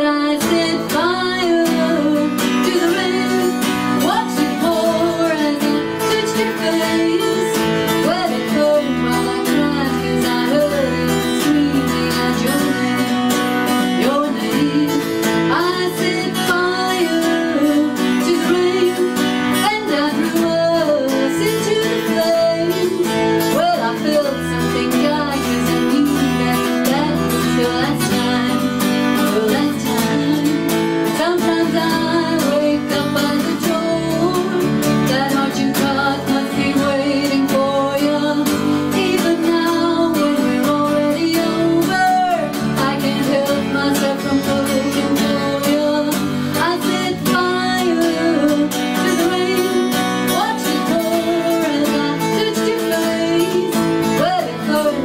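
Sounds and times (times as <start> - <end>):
strummed acoustic guitar: 0.0 - 55.0
woman singing: 0.0 - 55.0.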